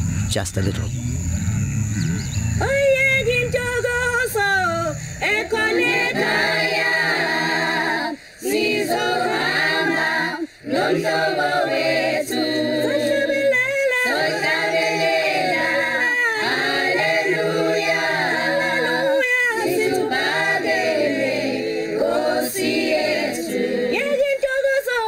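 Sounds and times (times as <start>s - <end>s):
choir singing unaccompanied: 2.2s - 24.3s.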